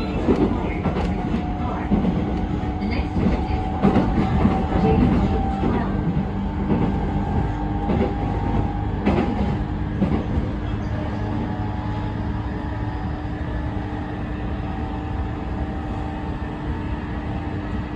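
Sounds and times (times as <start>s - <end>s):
train motor hum: 0.0s - 17.9s
wheels rumbling on rail: 0.0s - 17.9s.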